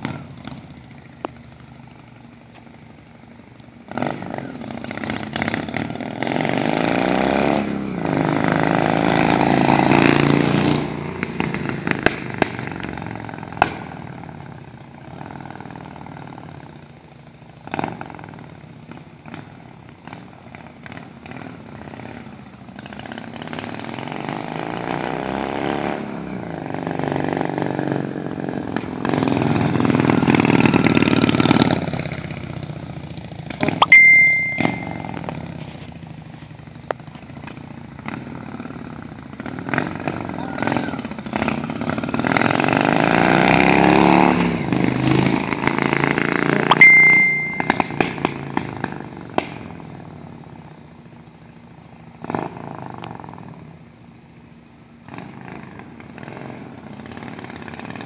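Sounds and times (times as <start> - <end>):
motorcycle engine passing by: 0.0 - 53.9, 55.0 - 58.0.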